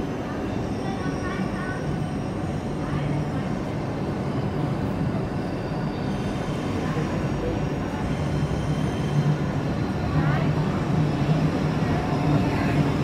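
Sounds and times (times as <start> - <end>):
electric train rumbling and whining: 0.0 - 13.0.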